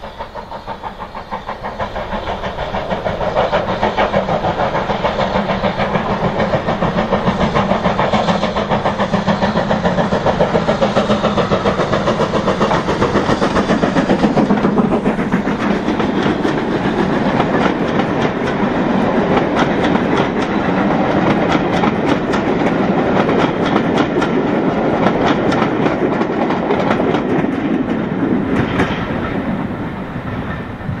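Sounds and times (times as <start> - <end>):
train wheels clicking over rail joints: 0.0 - 31.0.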